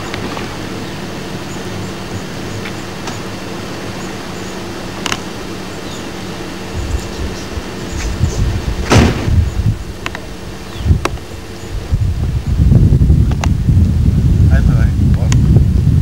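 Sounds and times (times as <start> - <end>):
camcorder hiss and hum: 0.0 - 15.7
low rumble: 0.0 - 16.0.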